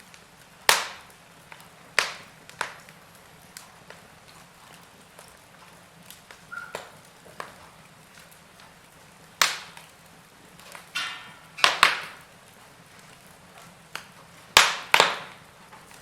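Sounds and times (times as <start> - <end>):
burning logs crackling: 0.0 - 16.0.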